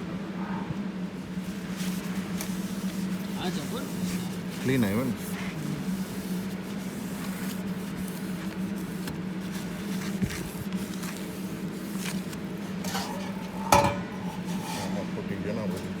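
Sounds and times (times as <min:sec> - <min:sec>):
laser welding machine hum: 0:01.0 - 0:16.0.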